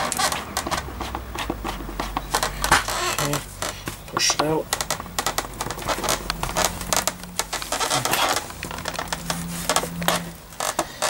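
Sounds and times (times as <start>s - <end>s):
plastic fasteners clicking and creaking: 0.0s - 11.0s.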